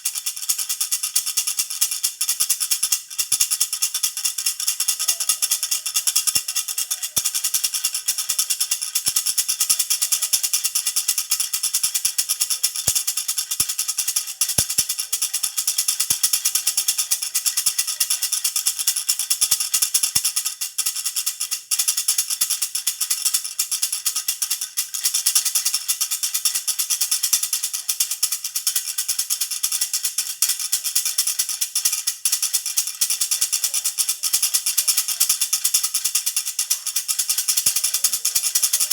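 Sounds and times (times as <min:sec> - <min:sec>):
baby rattle jingling: 0:00.1 - 0:20.4, 0:23.9 - 0:38.9.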